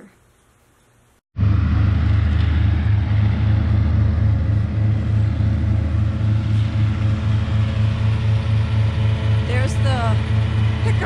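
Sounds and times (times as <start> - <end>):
grape harvester engine rumbling: 1.4 - 11.0.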